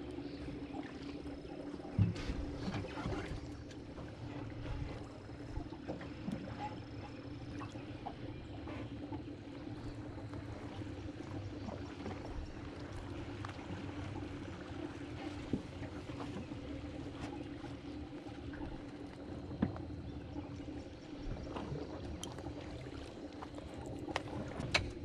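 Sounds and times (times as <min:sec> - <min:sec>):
water lapping against boat hull: 0:00.0 - 0:25.0.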